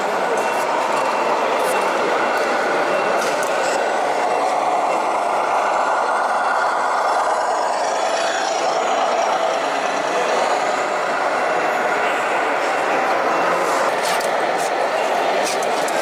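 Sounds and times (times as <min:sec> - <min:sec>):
diesel truck engine through small speaker: 0:00.0 - 0:16.0.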